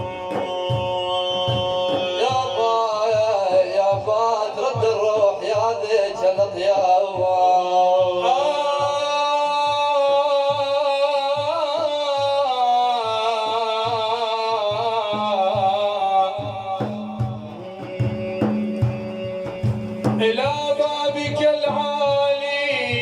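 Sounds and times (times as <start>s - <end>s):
hand drum beats: 0.0s - 23.0s.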